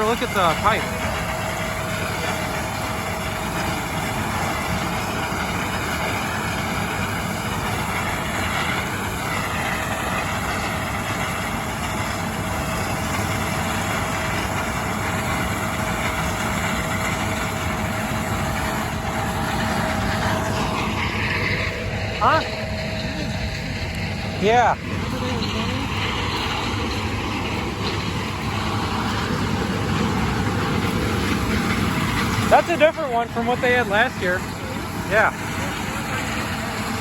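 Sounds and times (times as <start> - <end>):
heavy machinery engine drone: 0.0 - 37.0
wavering high hum: 0.0 - 37.0.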